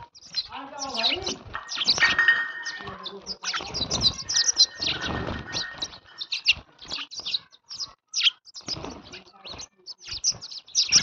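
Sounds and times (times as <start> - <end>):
sparrow chirping: 0.0 - 11.0.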